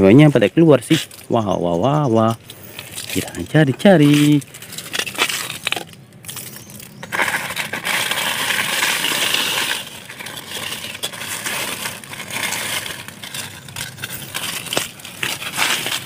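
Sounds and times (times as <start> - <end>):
dry leaves rustling and crackling: 0.0 - 16.0
stick scraping through soil: 2.5 - 16.0.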